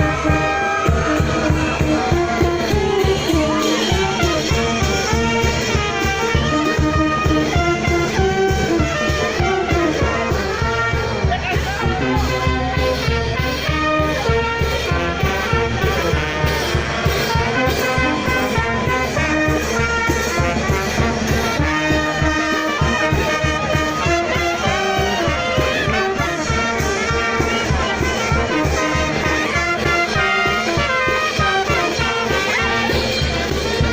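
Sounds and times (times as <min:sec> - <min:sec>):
brass band music: 0:00.0 - 0:33.9.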